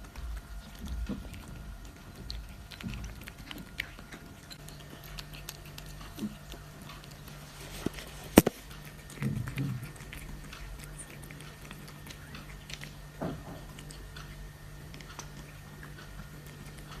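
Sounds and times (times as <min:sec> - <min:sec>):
cat chewing food: 0:00.0 - 0:17.0.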